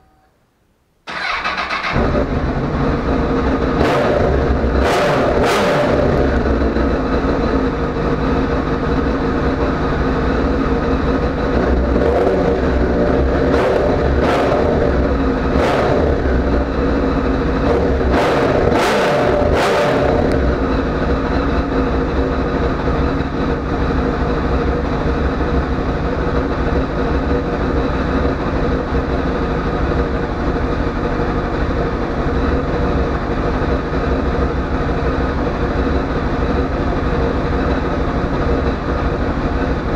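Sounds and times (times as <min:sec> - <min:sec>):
motorcycle engine revving and idling: 0:01.1 - 0:39.9.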